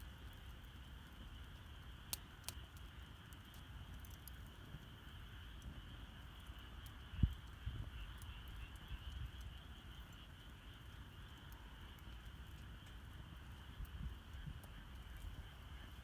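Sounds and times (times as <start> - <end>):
night insects chorus: 0.0 - 16.0
wood fire crackling: 0.0 - 16.0.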